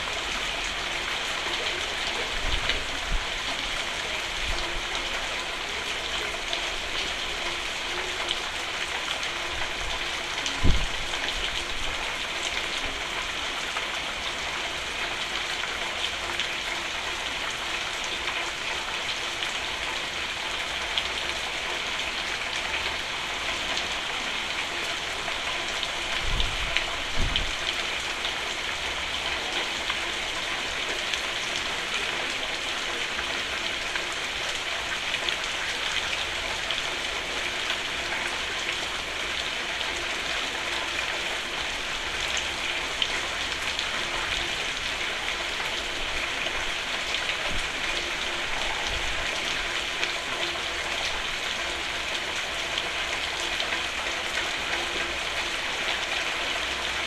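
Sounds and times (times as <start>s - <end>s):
heavy rain drumming on roof: 0.0s - 57.0s.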